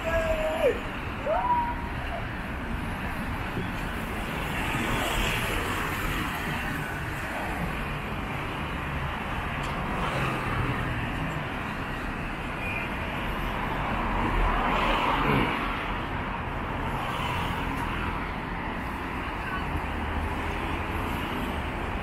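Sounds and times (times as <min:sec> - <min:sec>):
traffic hum: 0:00.0 - 0:22.0.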